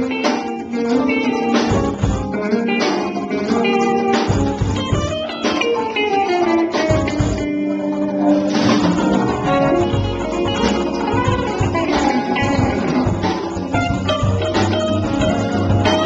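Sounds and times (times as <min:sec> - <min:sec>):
electric guitar playing: 0:00.0 - 0:16.0.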